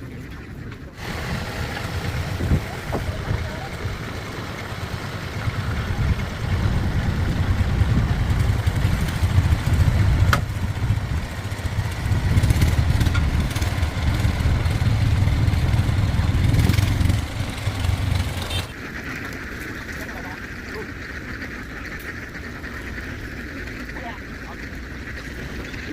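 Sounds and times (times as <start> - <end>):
engine rumbling: 0.0 - 25.9.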